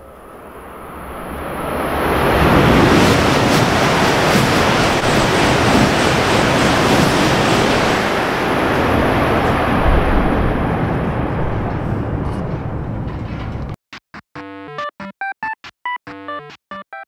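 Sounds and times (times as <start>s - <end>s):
high-speed train passing: 0.0s - 13.7s.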